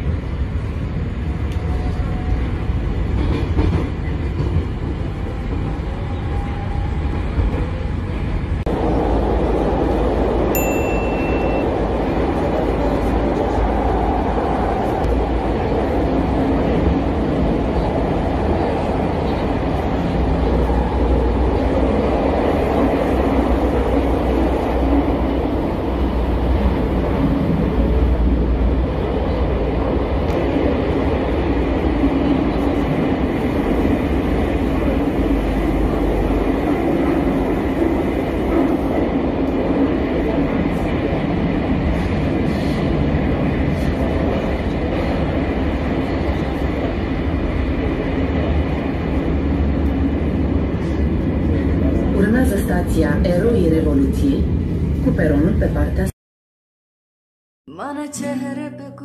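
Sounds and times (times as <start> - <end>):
train rumbling: 0.0 - 56.1.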